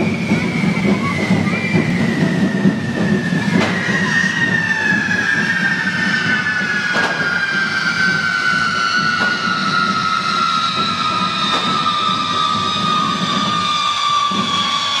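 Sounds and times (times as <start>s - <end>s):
falling firework whistle: 0.0s - 15.0s
firework bangs: 0.0s - 15.0s
fireworks hissing rush: 0.0s - 15.0s.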